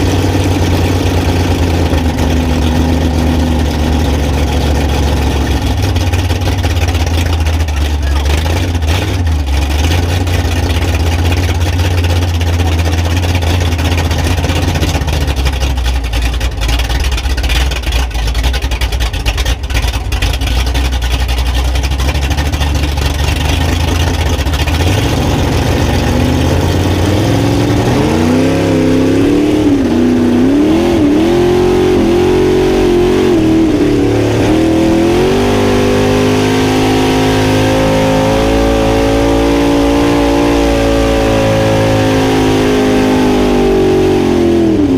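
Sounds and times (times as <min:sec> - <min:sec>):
truck engine idling and revving: 0:00.0 - 0:44.9.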